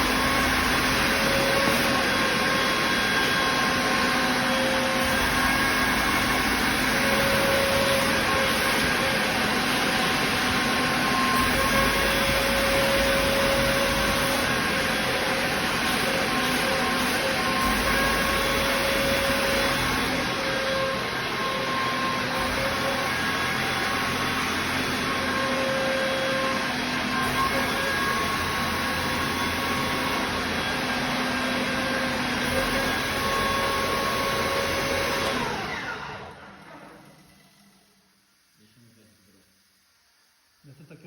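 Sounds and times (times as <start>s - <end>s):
compressor spinning down: 0.0s - 37.9s
air compressor running: 0.0s - 39.3s.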